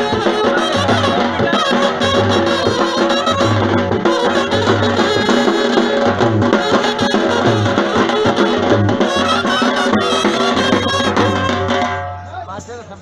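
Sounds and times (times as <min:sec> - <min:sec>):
brass band music: 0:00.0 - 0:12.2.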